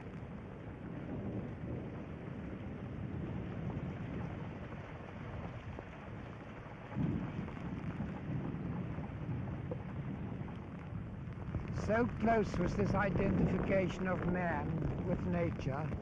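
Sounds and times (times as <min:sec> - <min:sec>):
rain falling: 0:00.0 - 0:16.0
thunder rumbling: 0:00.0 - 0:16.0.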